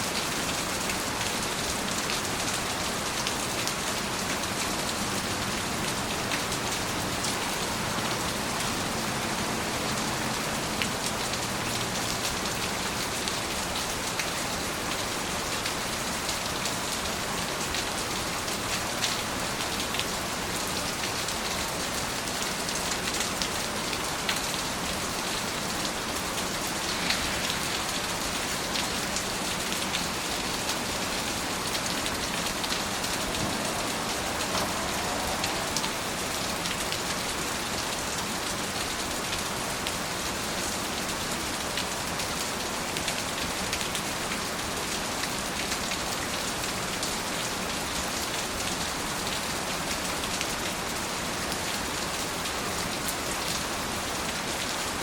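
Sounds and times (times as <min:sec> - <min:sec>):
rain pattering on surfaces: 0:00.0 - 0:55.0.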